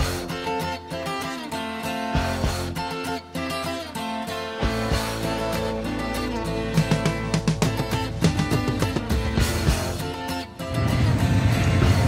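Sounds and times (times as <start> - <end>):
background music with strummed guitar: 0.0 - 12.0.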